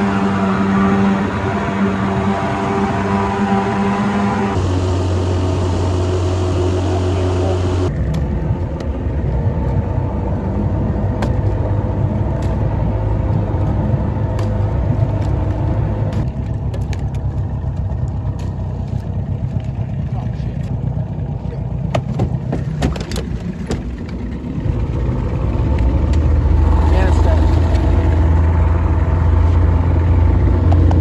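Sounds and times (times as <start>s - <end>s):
outboard motor running: 3.4s - 31.0s.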